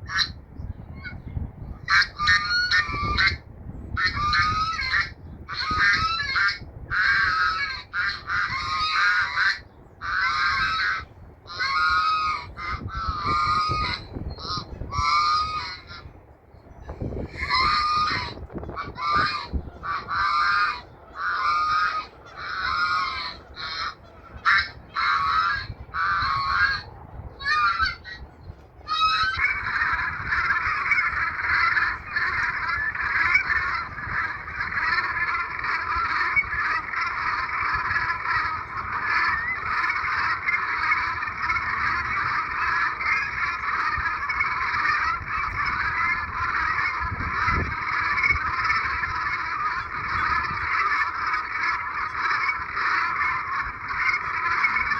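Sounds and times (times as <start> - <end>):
geese honking: 0.0 - 0.4, 1.8 - 16.1, 16.8 - 54.9.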